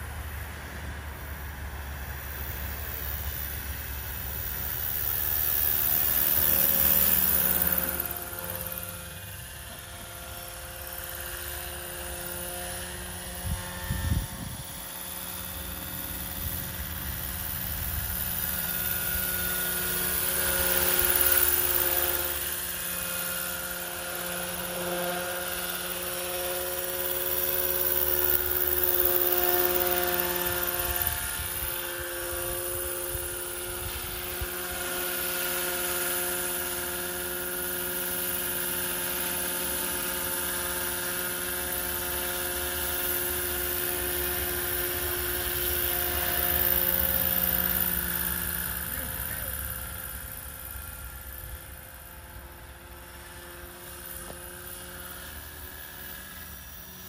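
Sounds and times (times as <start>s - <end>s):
rc helicopter whine: 0.0s - 57.0s.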